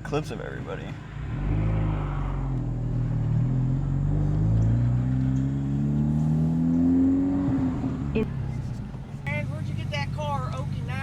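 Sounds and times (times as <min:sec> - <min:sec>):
car engine accelerating: 0:00.8 - 0:11.0.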